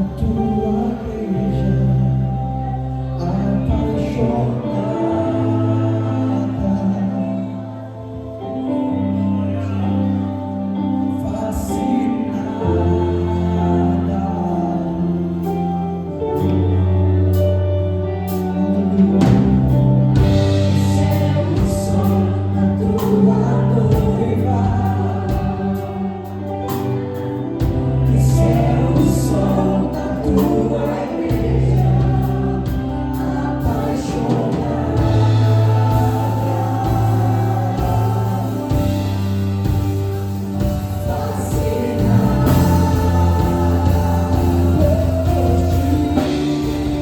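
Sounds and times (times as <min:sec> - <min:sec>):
choir singing: 0:00.0 - 0:17.3, 0:18.0 - 0:47.0
slow gospel music: 0:00.0 - 0:47.0.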